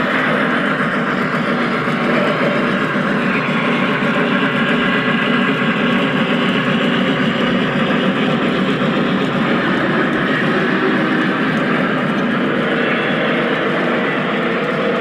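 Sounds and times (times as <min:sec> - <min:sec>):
locomotive motors: 0:00.0 - 0:15.0
model train wheels rumbling: 0:00.0 - 0:15.0.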